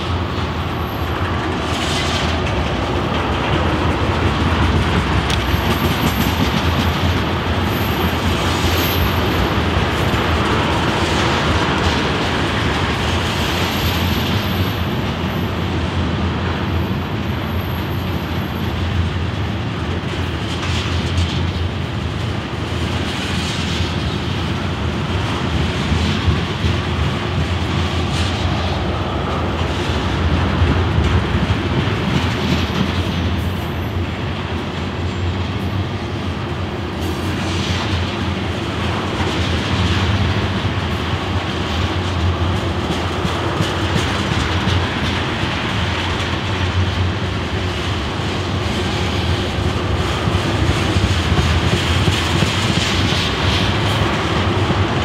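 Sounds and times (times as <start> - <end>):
train wheels rumbling on rail: 0.0 - 55.0
wheels clacking on rail joints: 0.0 - 55.0.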